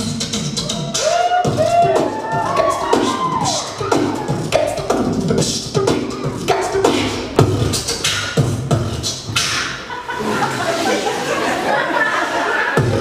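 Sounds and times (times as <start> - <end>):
beatboxing: 0.0 - 10.7, 12.7 - 13.0.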